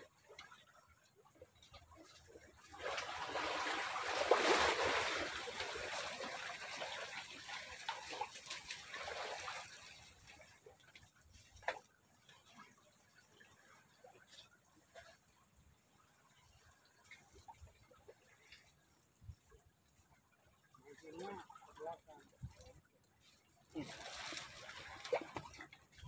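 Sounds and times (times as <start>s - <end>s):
water splashing and trickling: 0.0s - 26.0s.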